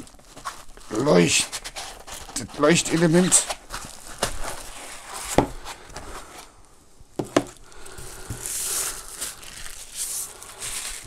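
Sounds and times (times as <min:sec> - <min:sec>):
cardboard and foam rustling: 0:00.0 - 0:06.6, 0:07.2 - 0:11.0
soft hiss: 0:00.0 - 0:11.0.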